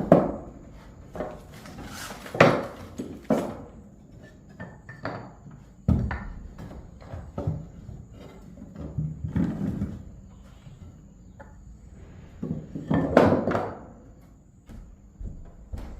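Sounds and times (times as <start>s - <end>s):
objects knocking and clattering: 0.0s - 10.3s, 12.3s - 15.9s.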